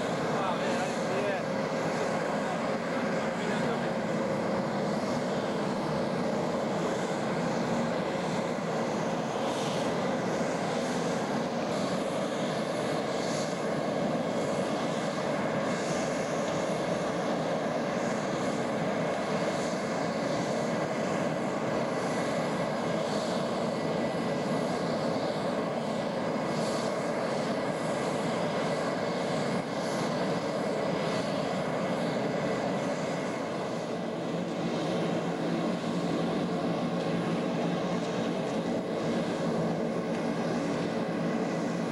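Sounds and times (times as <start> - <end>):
faint steady whine: 0.0 - 41.9
jet engines running: 0.0 - 41.9.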